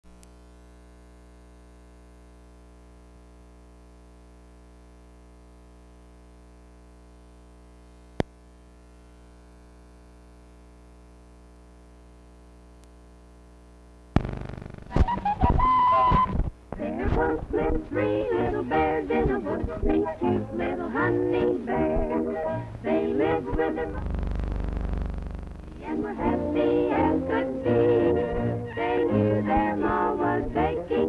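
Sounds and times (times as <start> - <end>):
low electrical hum: 0.1 - 31.0.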